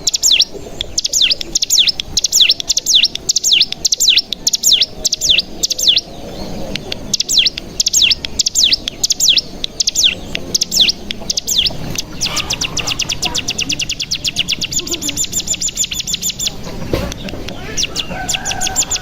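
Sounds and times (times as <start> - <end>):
songbird singing high trills: 0.0 - 19.0.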